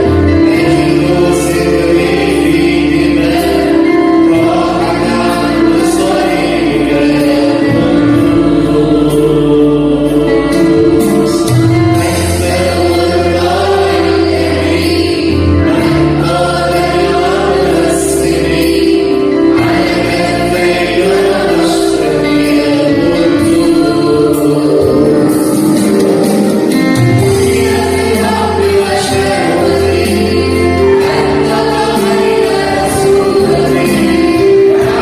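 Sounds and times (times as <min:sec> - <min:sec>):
choir singing a hymn: 0:00.0 - 0:35.0
instrumental backing with bass notes: 0:00.0 - 0:35.0.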